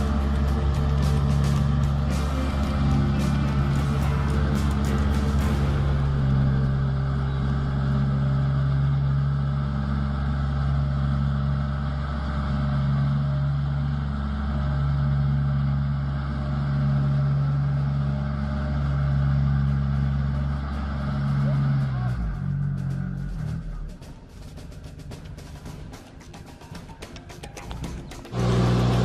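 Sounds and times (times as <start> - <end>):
farm machine engine running: 0.0 - 29.0.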